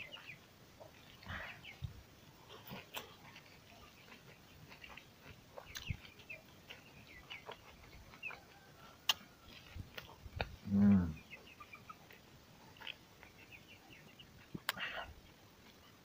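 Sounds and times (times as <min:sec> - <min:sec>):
man chewing food: 0:00.0 - 0:16.0.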